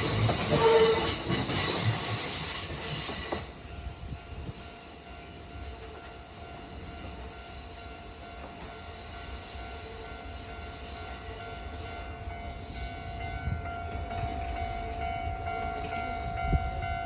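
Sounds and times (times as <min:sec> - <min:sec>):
train wheels squealing on rails: 0:00.0 - 0:17.0.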